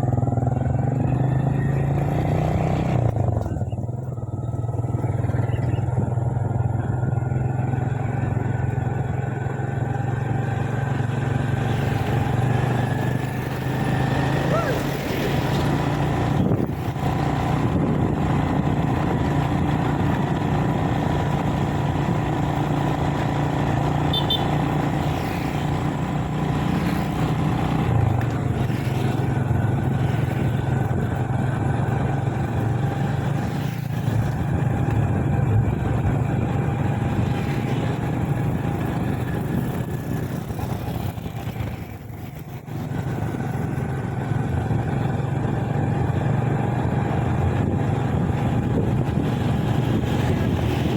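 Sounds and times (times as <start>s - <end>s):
motorbike engine running: 0.0s - 50.9s.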